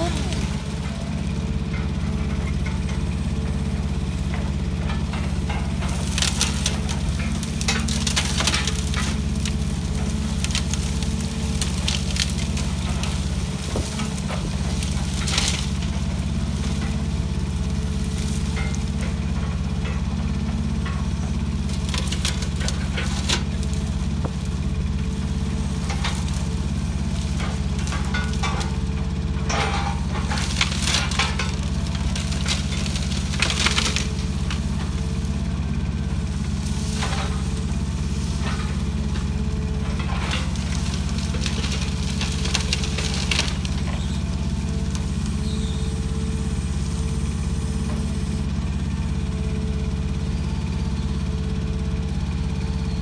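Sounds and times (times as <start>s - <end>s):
branches crackling and snapping: 0.0s - 52.6s
crane engine droning: 0.0s - 53.0s.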